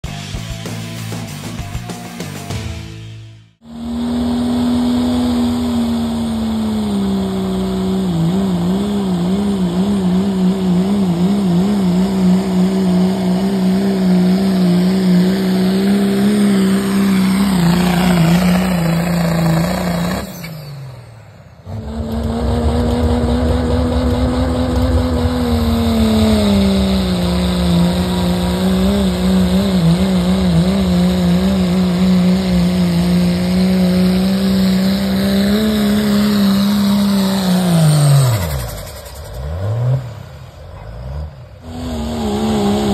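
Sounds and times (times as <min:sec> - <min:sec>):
diesel engine at full throttle: 0:00.0 - 0:42.9.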